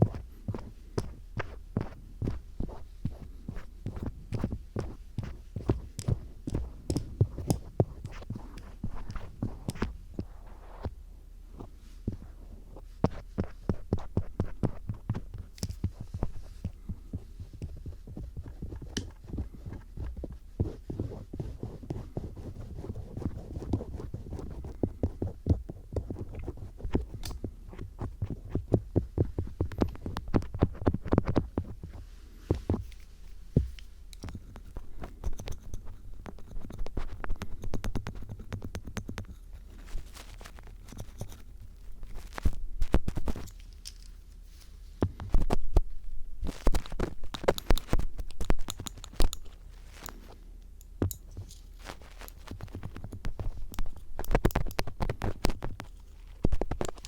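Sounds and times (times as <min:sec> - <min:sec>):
screwdriver scratching microphone: 0:00.0 - 0:11.0, 0:11.6 - 0:43.6, 0:46.4 - 0:50.4, 0:51.8 - 0:57.0.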